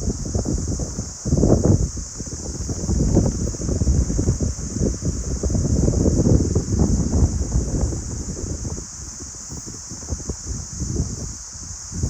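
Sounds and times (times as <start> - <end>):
steady high hiss: 0.0 - 12.0
wind buffeting microphone: 0.0 - 12.0
wind gusting through trees: 0.0 - 12.0.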